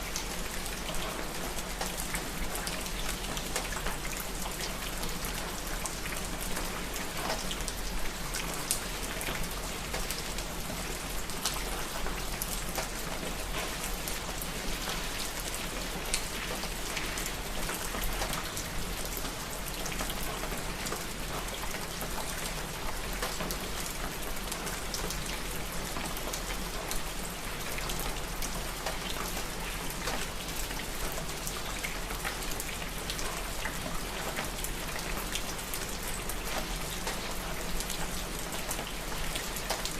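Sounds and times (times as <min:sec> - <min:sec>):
rain drops hitting a surface: 0:00.0 - 0:39.9.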